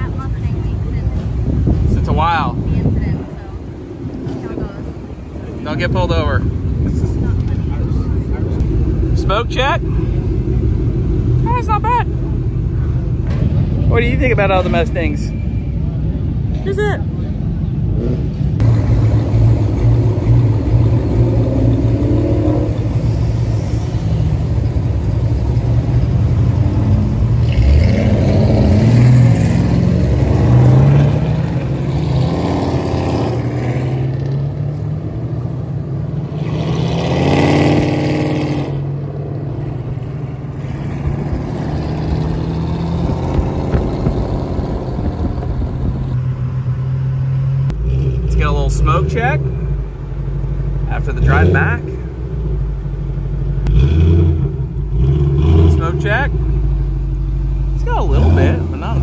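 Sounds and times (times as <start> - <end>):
car engine revving: 0.0 - 15.2, 17.8 - 59.0.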